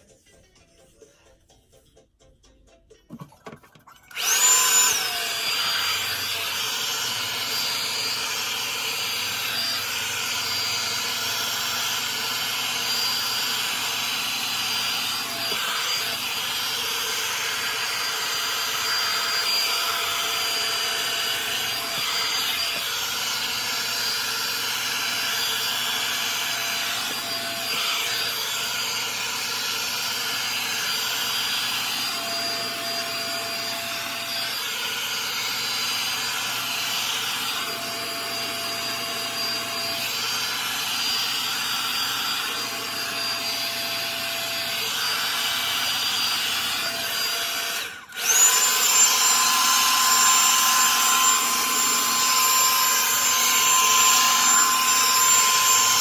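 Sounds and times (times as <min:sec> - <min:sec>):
hot-air brush fan whining: 0:04.1 - 0:56.0.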